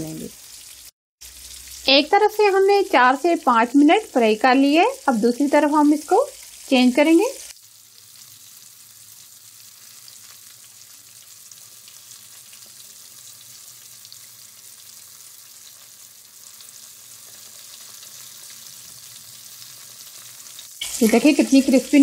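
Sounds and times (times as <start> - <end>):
fish deep-frying in hot oil: 0.0 - 22.0.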